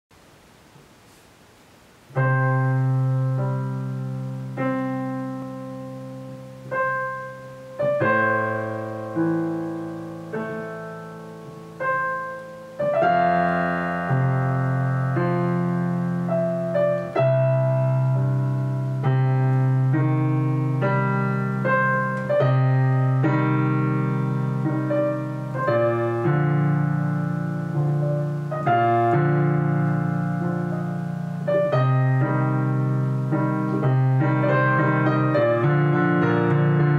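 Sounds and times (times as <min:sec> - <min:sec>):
digital piano playing chords: 0:02.1 - 0:36.9.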